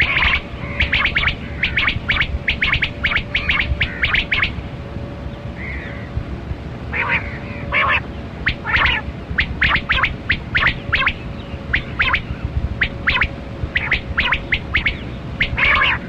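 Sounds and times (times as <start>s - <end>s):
quail calling: 0.0s - 4.6s, 6.9s - 16.0s
low hum and hiss: 0.0s - 16.0s.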